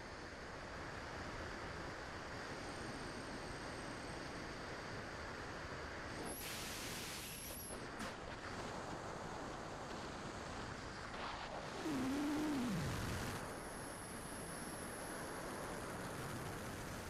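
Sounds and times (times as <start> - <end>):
wind hiss over microphone: 0.0 - 17.0.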